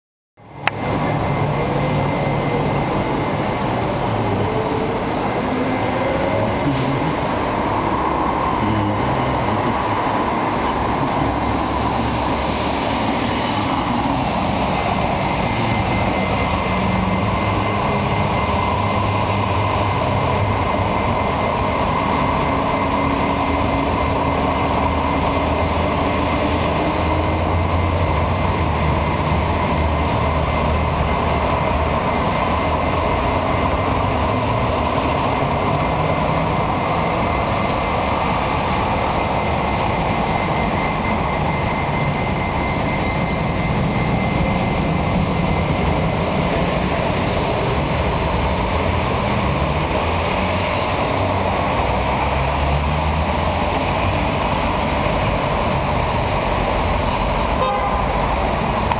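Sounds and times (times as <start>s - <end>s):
cars passing: 0.4s - 58.9s
electric tram passing: 0.4s - 58.9s.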